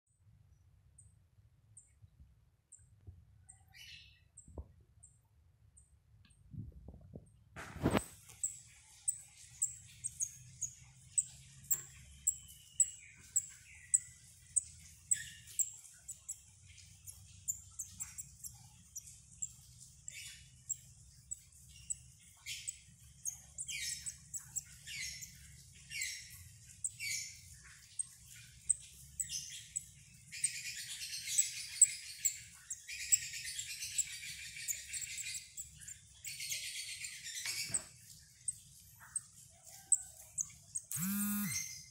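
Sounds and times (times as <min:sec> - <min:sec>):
bird chicks chirping: 0:07.7 - 0:41.9.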